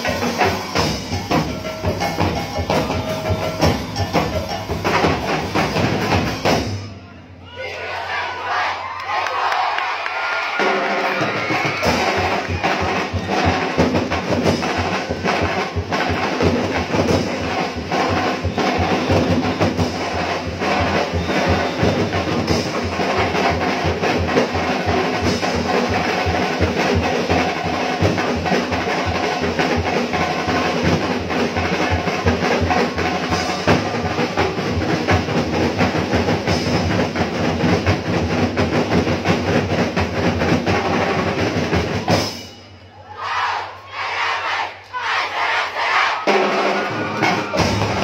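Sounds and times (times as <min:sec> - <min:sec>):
drums playing fast beat: 0:00.0 - 0:07.0, 0:10.4 - 0:42.8, 0:46.2 - 0:48.0.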